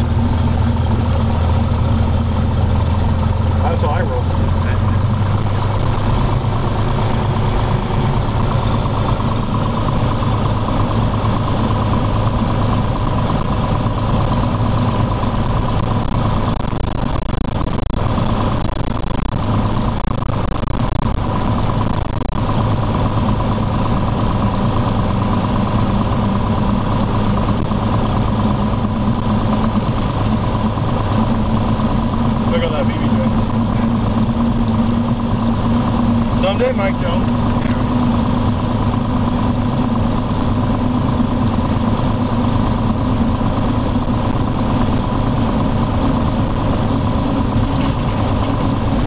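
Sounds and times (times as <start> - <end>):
propeller engine drone: 0.0 - 49.0
thin steady whine: 0.0 - 49.0.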